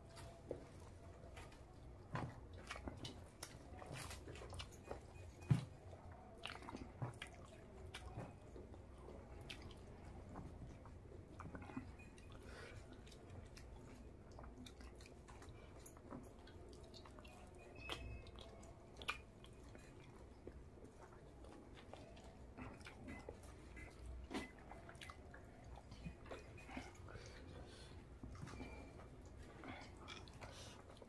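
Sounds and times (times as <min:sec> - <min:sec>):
close chewing: 0:00.0 - 0:31.0.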